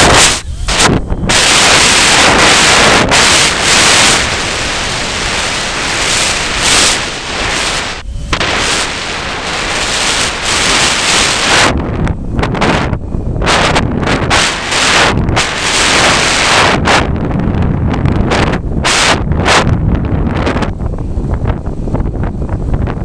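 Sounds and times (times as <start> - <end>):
strong wind on microphone: 0.0 - 23.0.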